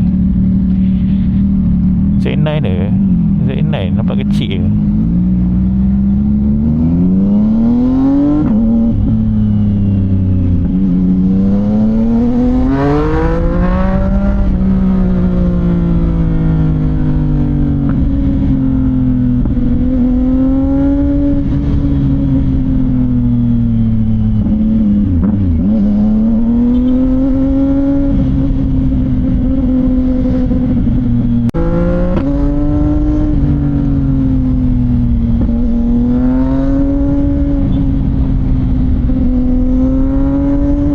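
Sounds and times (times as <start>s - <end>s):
motorcycle engine revving: 4.7s - 40.9s.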